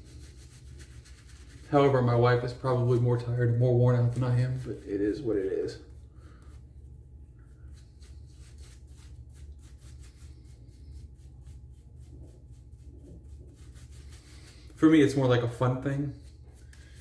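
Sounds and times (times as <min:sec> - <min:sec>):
shaving brush swishing on face: 0:00.0 - 0:17.0.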